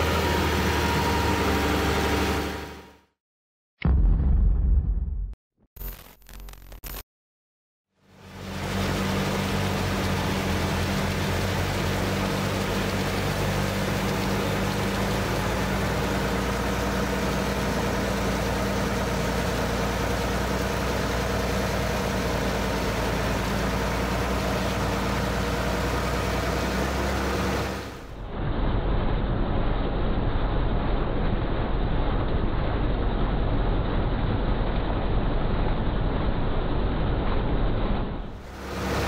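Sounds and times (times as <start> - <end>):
tractor and harvester engine drone: 0.0 - 3.1, 8.0 - 39.0.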